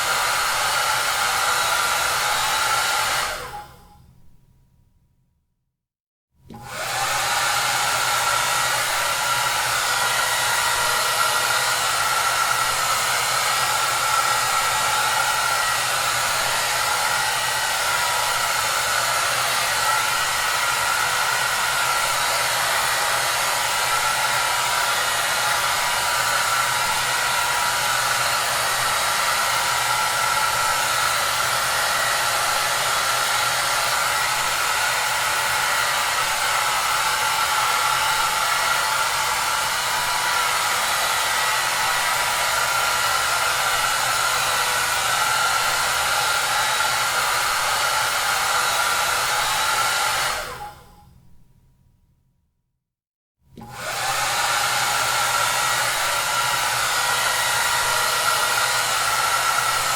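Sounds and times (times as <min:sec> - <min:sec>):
hair dryer running: 0:00.0 - 0:03.9, 0:06.5 - 0:51.0, 0:53.5 - 0:59.9.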